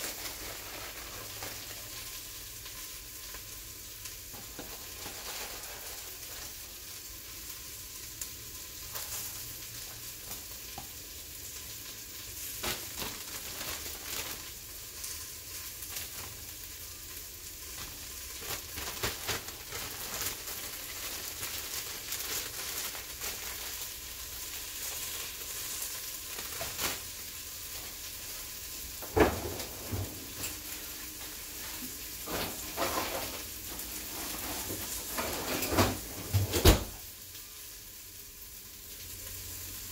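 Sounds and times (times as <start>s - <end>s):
crackles: 0.0s - 36.4s
broth simmering and sizzling: 0.0s - 39.9s.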